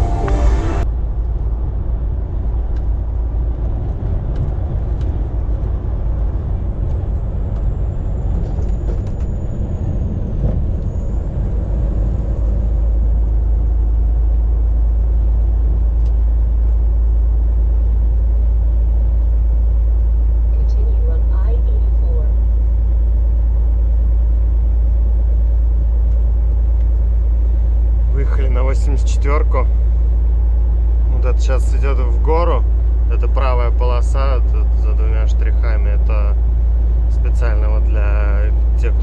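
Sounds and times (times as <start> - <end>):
truck engine and road rumble: 0.0 - 39.0.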